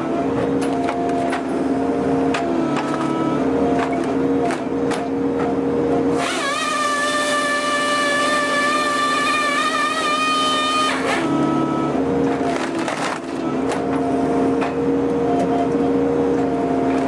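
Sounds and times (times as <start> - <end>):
engine and hydraulics running: 0.0 - 17.0.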